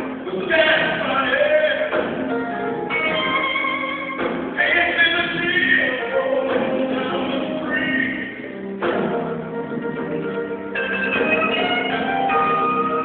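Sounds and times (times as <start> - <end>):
drums: 0.0 - 13.0
keyboard: 0.0 - 13.0
electric guitars: 1.9 - 13.0.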